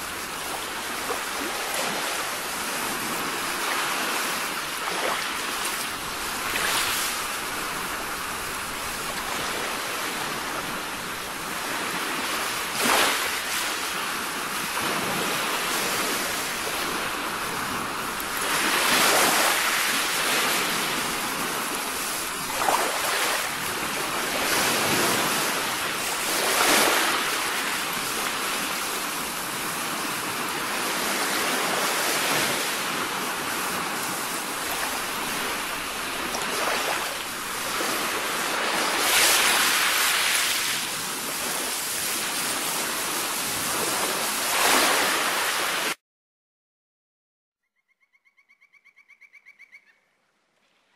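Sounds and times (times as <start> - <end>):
waves washing on beach: 0.0 - 46.0.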